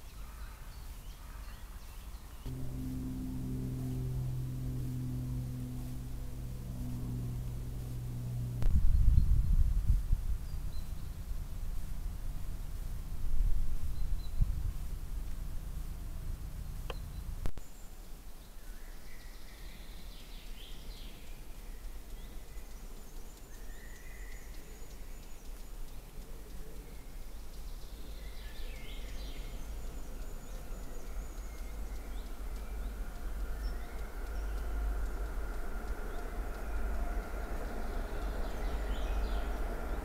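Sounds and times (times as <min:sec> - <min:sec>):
low rumble and hiss: 0:00.0 - 0:40.0.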